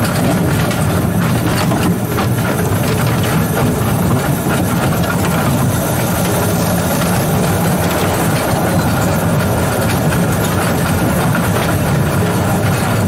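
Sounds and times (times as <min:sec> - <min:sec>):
locomotive rumbling on rails: 0:00.0 - 0:13.0.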